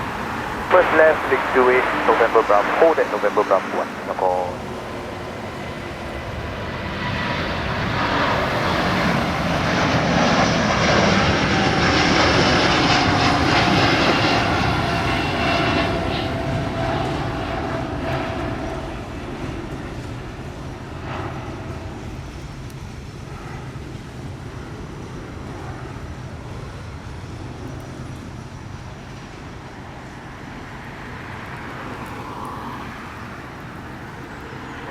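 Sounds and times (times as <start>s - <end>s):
jet engines at takeoff: 0.0s - 34.9s.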